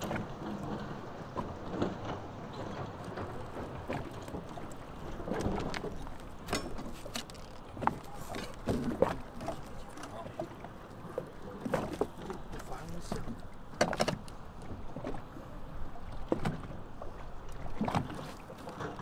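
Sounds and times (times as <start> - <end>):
knocks and clunks on boat: 0.0 - 19.0.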